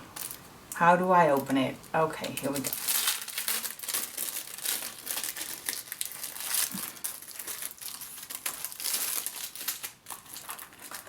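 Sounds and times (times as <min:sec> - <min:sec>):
plastic packaging crinkling: 0:00.1 - 0:00.5, 0:01.1 - 0:11.0.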